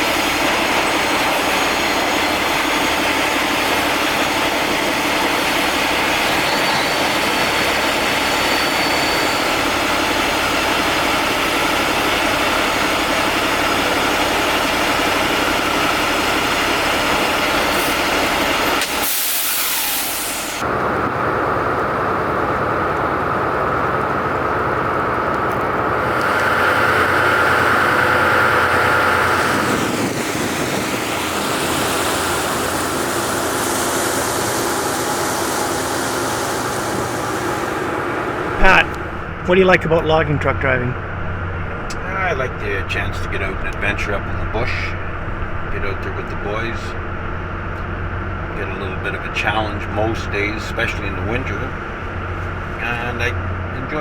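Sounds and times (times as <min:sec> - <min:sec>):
heavy vehicle engine rumbling: 0:00.0 - 0:54.0.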